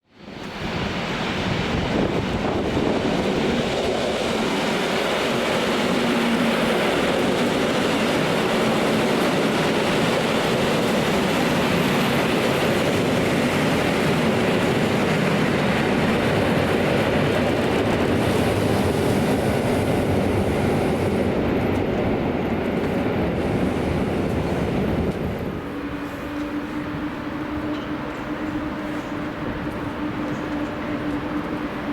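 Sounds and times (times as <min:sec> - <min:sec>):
train rolling on rails: 0:00.0 - 0:31.9.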